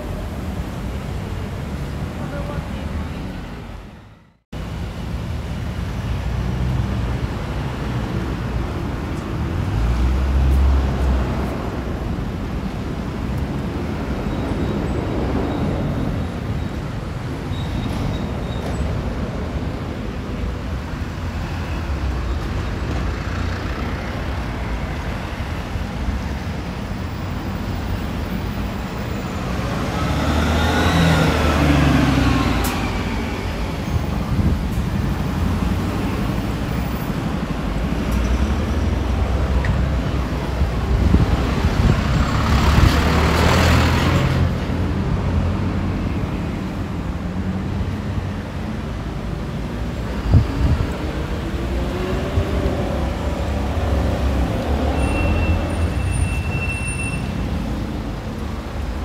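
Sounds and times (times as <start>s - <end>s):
low traffic rumble: 0.0s - 59.0s
vehicles passing close: 0.0s - 59.0s.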